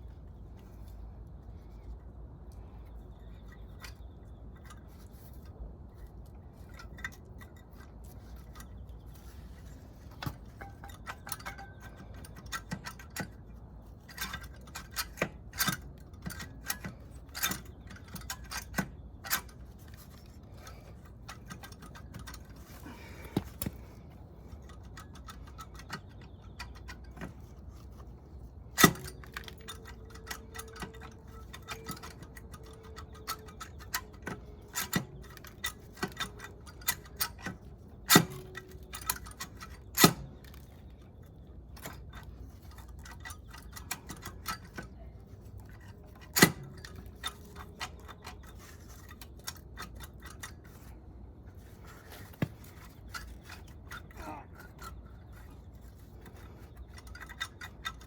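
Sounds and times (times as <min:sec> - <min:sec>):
metal tools clinking: 0:02.8 - 0:58.0.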